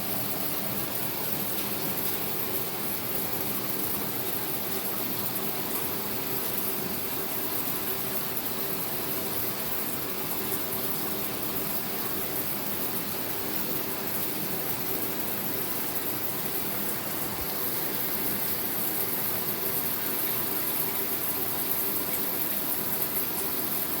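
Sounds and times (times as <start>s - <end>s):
shower water spraying: 0.0s - 24.0s.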